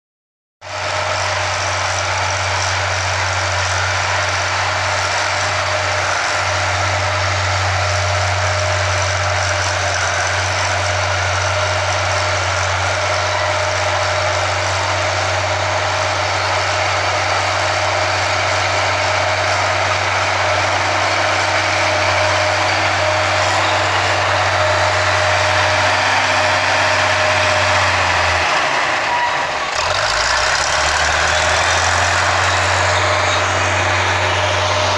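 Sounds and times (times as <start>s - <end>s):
bulldozer diesel engine under load: 0.6s - 34.9s.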